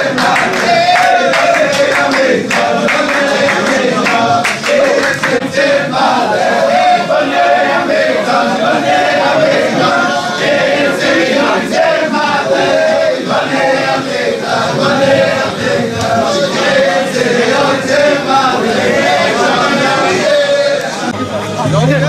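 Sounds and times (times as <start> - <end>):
men singing together: 0.0 - 21.2.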